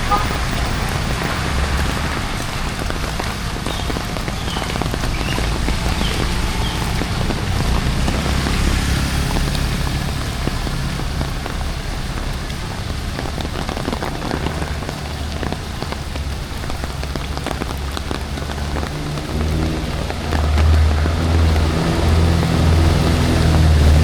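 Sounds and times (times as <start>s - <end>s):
heavy rain on hard surfaces: 0.0s - 24.0s.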